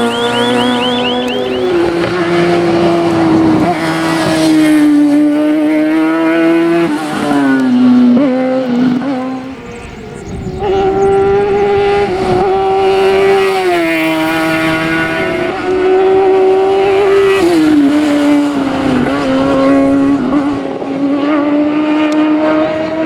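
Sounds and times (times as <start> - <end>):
race car engine at high revs: 0.0 - 23.0.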